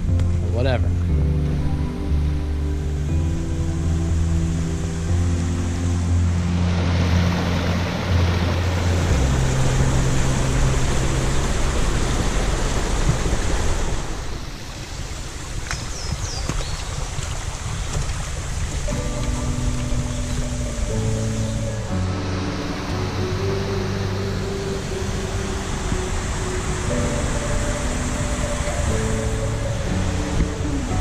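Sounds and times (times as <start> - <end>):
music with low sustained notes: 0.0 - 14.8, 18.6 - 31.0
steady rushing noise: 1.6 - 16.4, 17.1 - 31.0.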